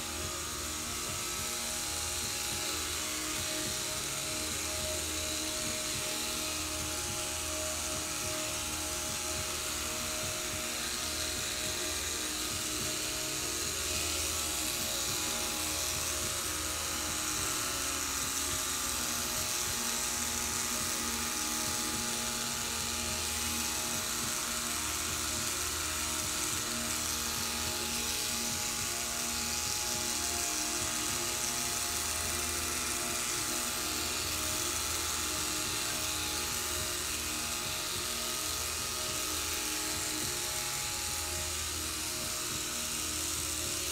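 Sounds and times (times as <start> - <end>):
electric clippers buzzing: 0.0 - 43.9.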